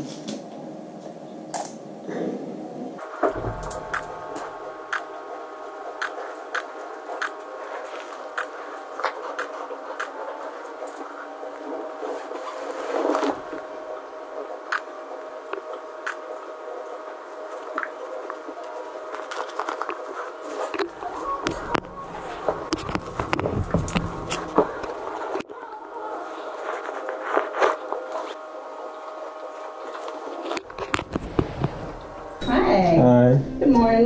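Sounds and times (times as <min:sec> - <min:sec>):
steady background hum: 0:00.0 - 0:34.0.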